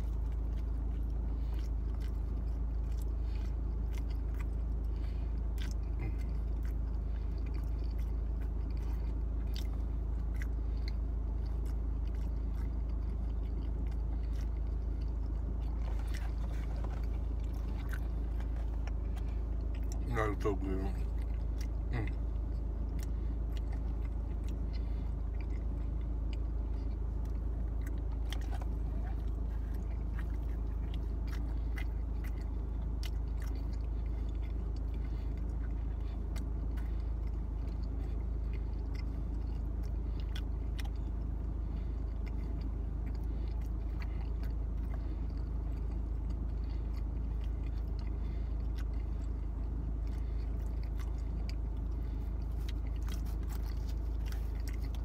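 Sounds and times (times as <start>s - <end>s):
person chewing: 0.0s - 55.0s
steady low hum: 0.0s - 55.0s.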